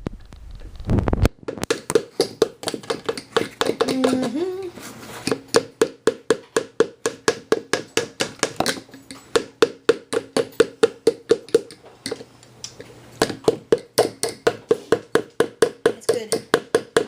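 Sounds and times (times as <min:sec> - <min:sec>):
rapid taps on hollow object: 0:01.5 - 0:04.5, 0:05.2 - 0:12.3, 0:13.2 - 0:17.0.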